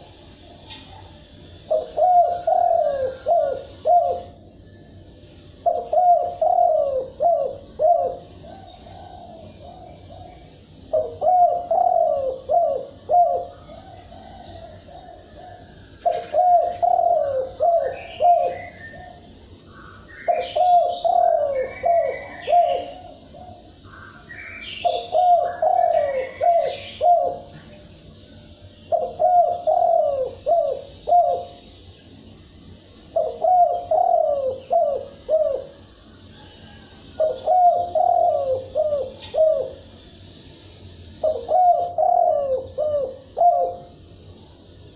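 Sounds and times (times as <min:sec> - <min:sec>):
faint bird chirps: 0:00.0 - 0:44.9
dove cooing: 0:00.8 - 0:27.9, 0:28.9 - 0:31.7, 0:33.1 - 0:40.0, 0:41.2 - 0:44.0.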